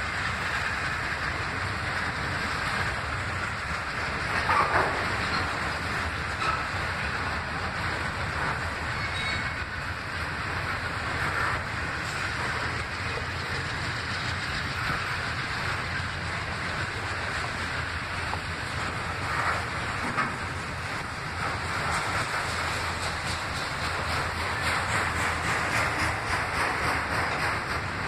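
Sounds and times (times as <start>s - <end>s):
freight train rolling past: 0.0s - 28.0s.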